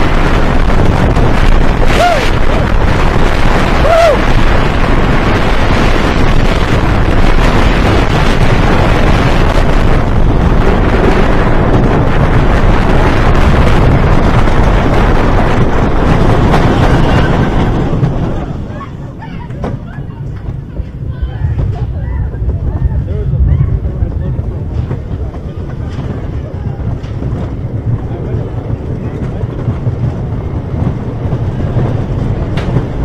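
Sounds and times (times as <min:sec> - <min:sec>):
roller coaster on wooden track: 0:00.0 - 0:33.0
wind buffeting microphone: 0:00.0 - 0:33.0.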